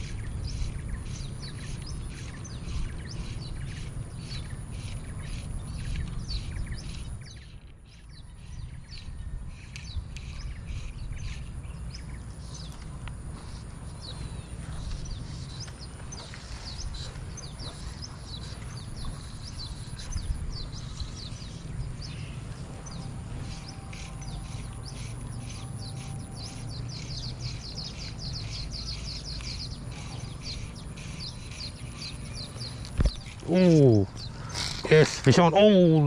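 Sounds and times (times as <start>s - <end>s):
birds chirping: 0.0s - 36.0s
steady low rumble: 0.0s - 36.0s.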